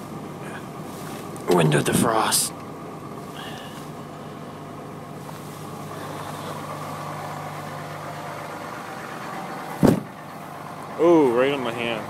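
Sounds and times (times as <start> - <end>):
diesel engine idling: 0.0 - 12.0
heater fan blowing: 0.0 - 12.0.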